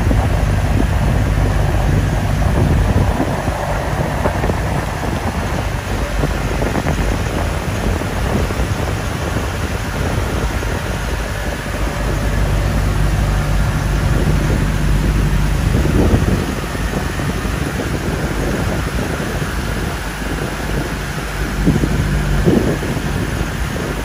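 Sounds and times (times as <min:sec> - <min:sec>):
boat engine running: 0:00.0 - 0:24.0
wind noise: 0:00.0 - 0:24.0.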